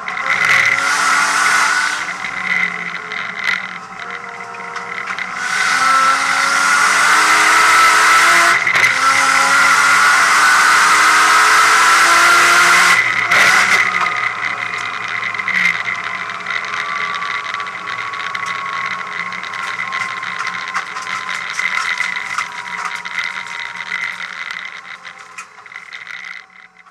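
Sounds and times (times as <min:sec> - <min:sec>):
drivetrain rattling and clattering: 0:00.0 - 0:26.9
race car engine at full throttle: 0:00.0 - 0:26.9.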